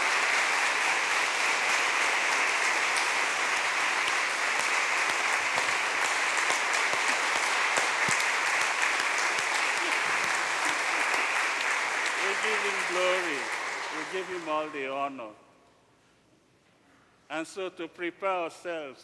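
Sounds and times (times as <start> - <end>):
congregation applauding: 0.0 - 15.2.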